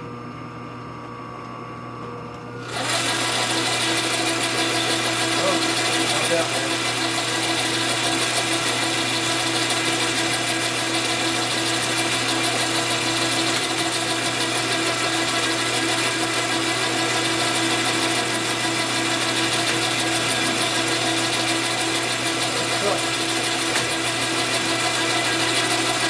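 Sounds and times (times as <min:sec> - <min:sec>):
metal lathe whining and humming: 0:02.6 - 0:26.0.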